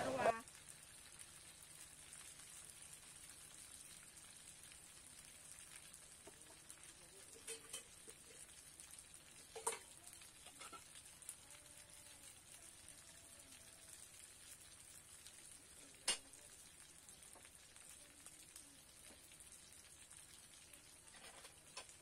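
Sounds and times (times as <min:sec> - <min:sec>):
hot oil popping: 0:00.0 - 0:22.0
oil sizzling in a wok: 0:00.0 - 0:22.0.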